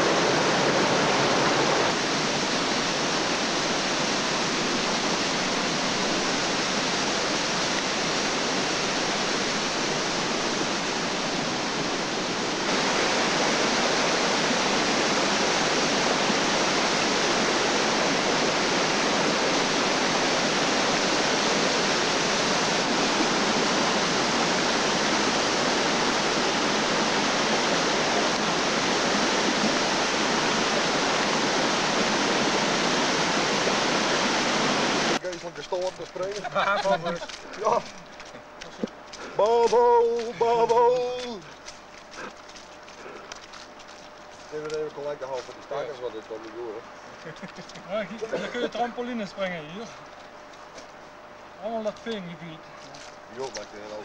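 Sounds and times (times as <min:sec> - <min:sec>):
waterfall roaring: 0:00.0 - 0:43.8.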